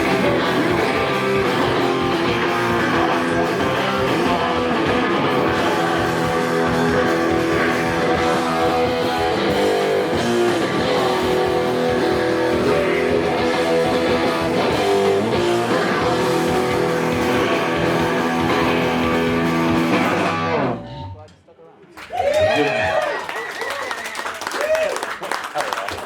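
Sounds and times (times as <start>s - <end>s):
drums: 0.0s - 21.0s
bass guitar: 0.0s - 21.3s
distorted electric guitar: 0.0s - 21.4s.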